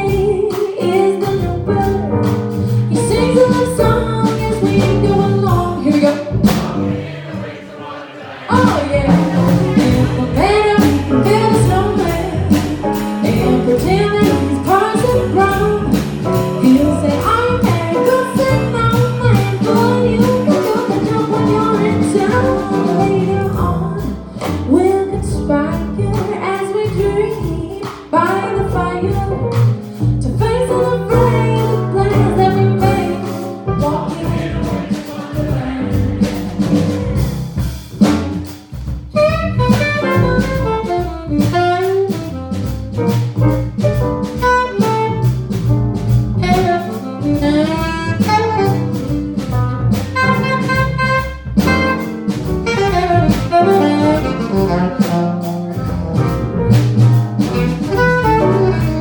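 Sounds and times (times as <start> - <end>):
jazz band playing: 0.0 - 59.0.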